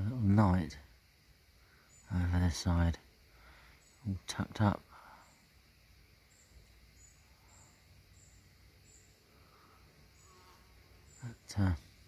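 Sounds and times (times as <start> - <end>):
faint high bird chirps: 1.6 - 12.0.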